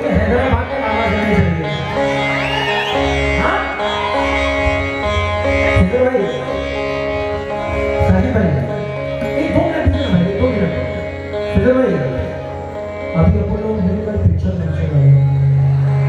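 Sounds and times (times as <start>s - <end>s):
harmonium held notes: 0.0s - 16.0s.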